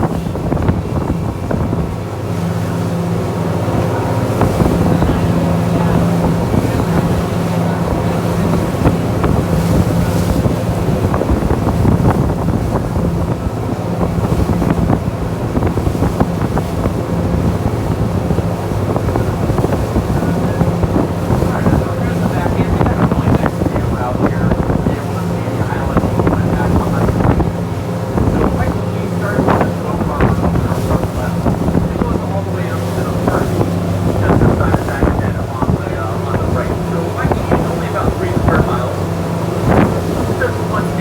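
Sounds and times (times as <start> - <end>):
boat engine humming: 0.0 - 41.0
water rushing past hull: 0.0 - 41.0
wind buffeting microphone: 0.0 - 41.0.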